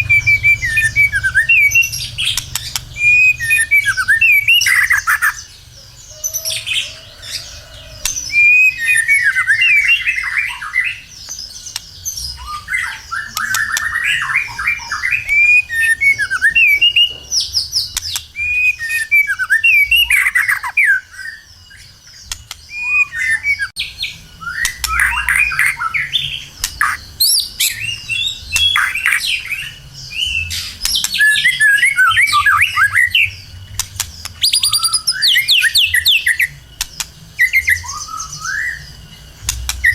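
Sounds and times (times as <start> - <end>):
songbird singing whistles and chatter: 0.0 - 39.9.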